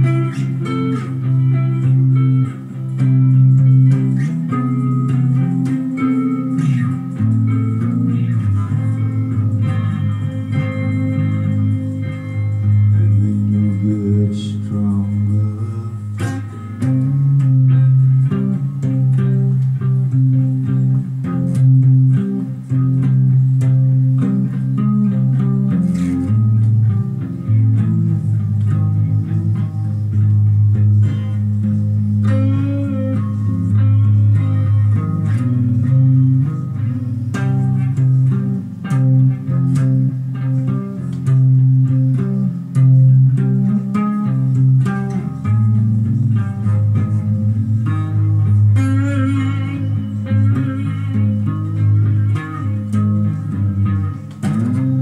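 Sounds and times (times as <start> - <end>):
electric guitar plucked low notes: 0.0 - 55.0
wavering higher guitar line: 0.0 - 55.0.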